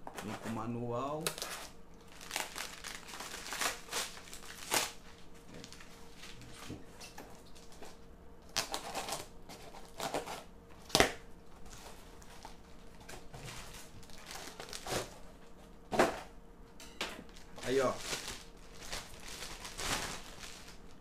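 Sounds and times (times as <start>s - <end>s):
packaging crinkling and rustling: 1.2s - 15.6s, 17.3s - 21.0s.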